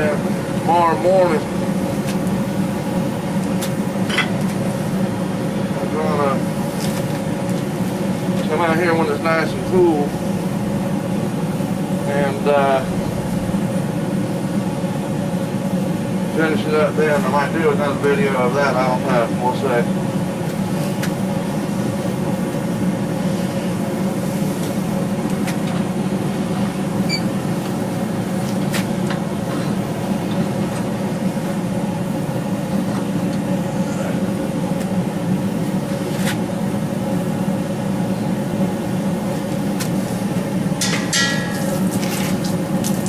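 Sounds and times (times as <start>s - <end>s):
forge equipment roaring: 0.0s - 43.0s.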